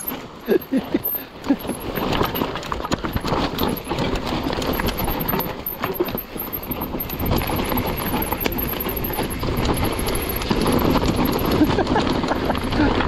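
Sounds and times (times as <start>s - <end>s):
bike knocking and rattling: 0.0s - 13.0s
bike tyres crunching over stones: 0.0s - 13.0s.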